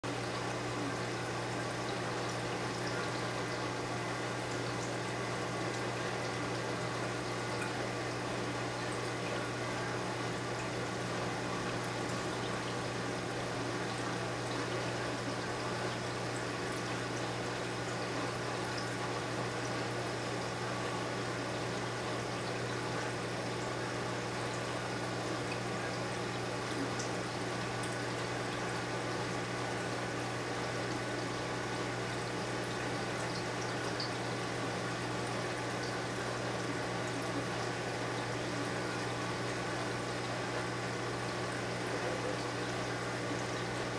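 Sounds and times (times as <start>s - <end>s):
constant low equipment hum: 0.0s - 43.9s.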